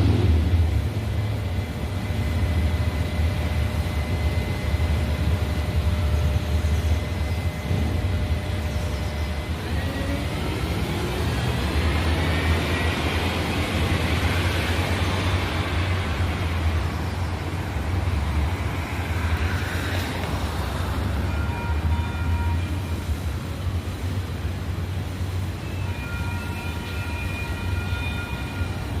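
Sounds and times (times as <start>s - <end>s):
light rail train rolling rumble: 0.0s - 29.0s.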